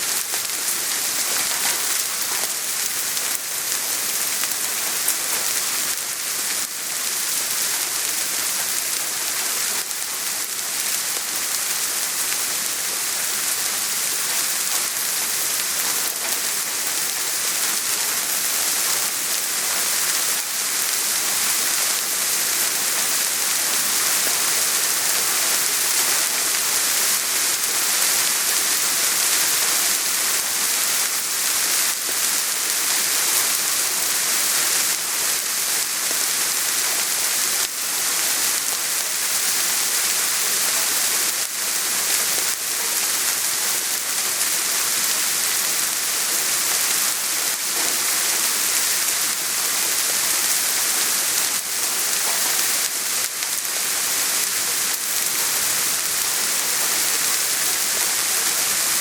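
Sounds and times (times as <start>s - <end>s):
soft rain pattering: 0.0s - 59.0s.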